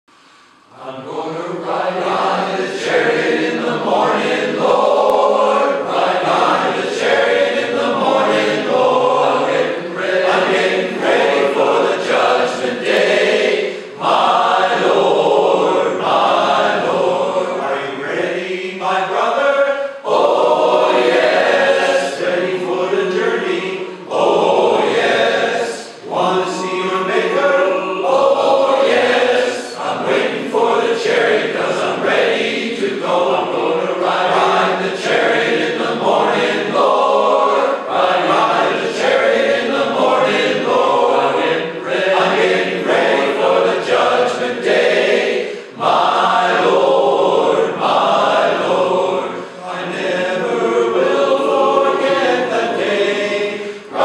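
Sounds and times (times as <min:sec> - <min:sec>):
men's chorus singing a cappella: 0:00.7 - 0:54.0.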